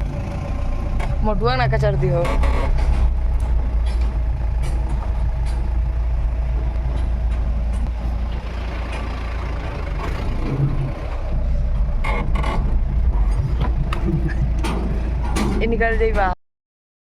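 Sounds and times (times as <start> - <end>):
pickup truck engine rumbling: 0.0 - 16.4.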